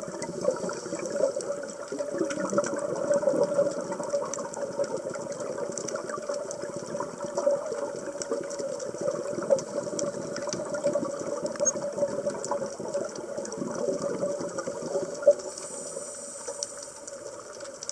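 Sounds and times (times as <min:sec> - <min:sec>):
underwater regulator bubbles: 0:00.0 - 0:17.9.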